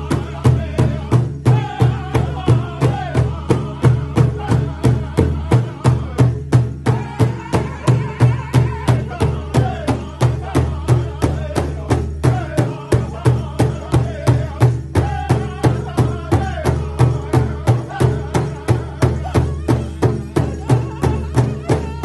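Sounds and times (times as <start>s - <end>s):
large hide drum beating: 0.0s - 22.0s
men singing: 0.0s - 22.0s.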